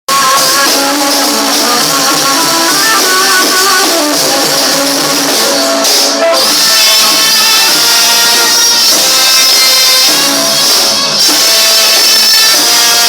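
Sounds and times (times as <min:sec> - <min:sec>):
instrumental pop music: 0:00.1 - 0:13.0.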